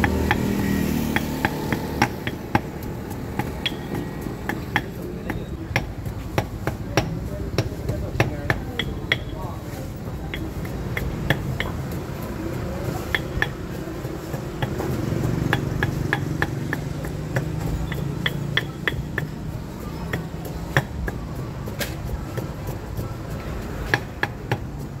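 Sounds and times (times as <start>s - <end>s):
pestle pounding in stone mortar: 0.0s - 25.0s.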